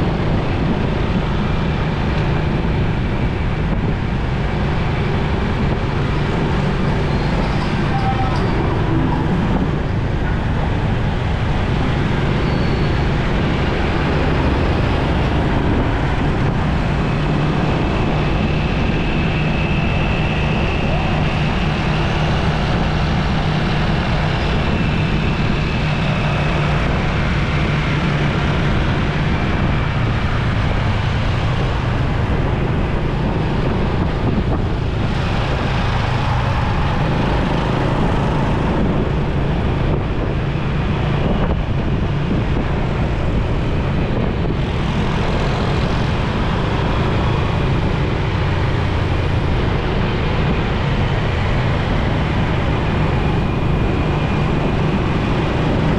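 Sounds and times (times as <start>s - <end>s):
motorcycle engine hum: 0.0s - 55.9s
road and traffic rumble: 0.0s - 55.9s.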